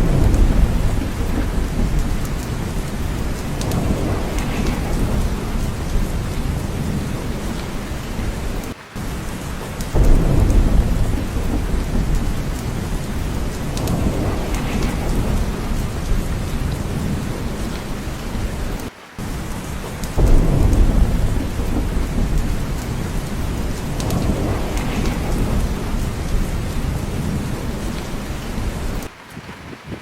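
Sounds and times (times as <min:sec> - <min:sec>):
heavy rain falling: 0:00.0 - 0:30.0
rolling thunder: 0:00.0 - 0:30.0.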